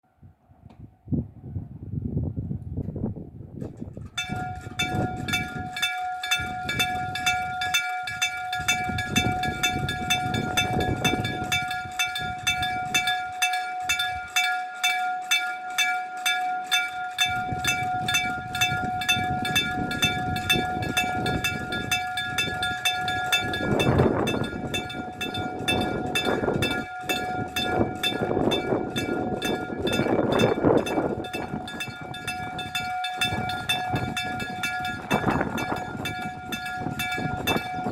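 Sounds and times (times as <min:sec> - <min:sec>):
level crossing bell ringing: 0:04.2 - 0:37.9.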